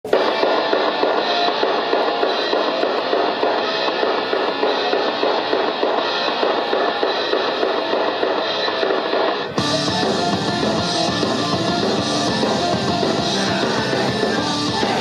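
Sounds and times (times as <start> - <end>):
drum kit beat: 0.0 - 15.0
guitar playing: 0.1 - 15.0.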